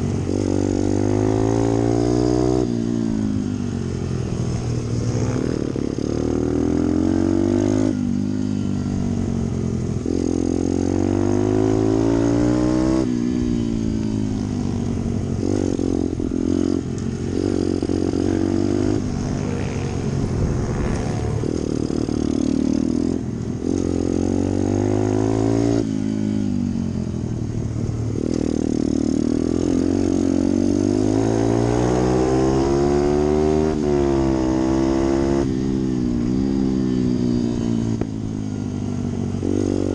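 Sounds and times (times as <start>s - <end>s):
small motorbike engine revving: 0.0s - 27.1s, 27.9s - 39.9s.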